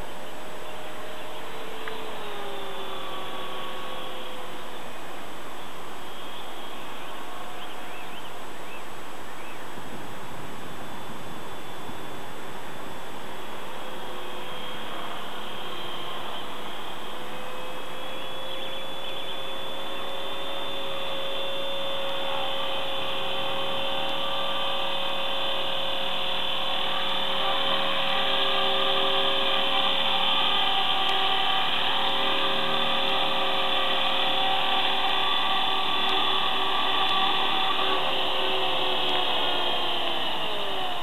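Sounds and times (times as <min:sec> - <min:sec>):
rc helicopter rotors whining: 0:00.0 - 0:41.0.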